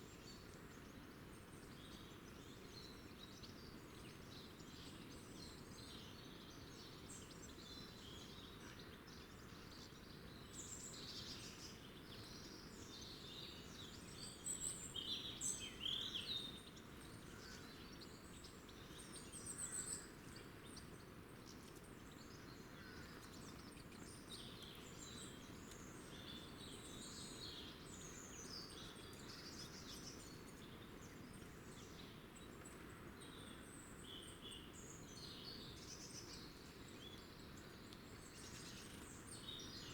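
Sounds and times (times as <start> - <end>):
low background hiss: 0.0 - 39.9
small birds chirping: 0.0 - 39.9.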